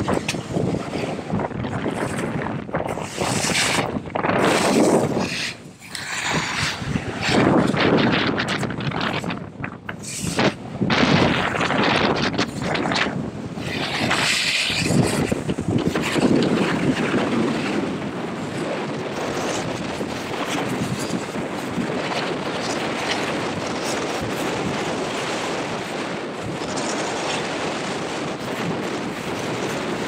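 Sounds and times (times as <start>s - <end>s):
snowboards sliding over snow: 0.0s - 30.0s
wind buffeting microphone: 0.0s - 30.0s.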